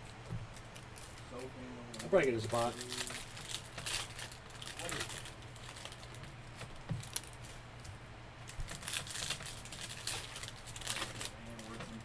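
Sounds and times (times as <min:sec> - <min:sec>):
steady low hum: 0:00.0 - 0:12.0
trading cards clicking and rustling: 0:00.0 - 0:12.0.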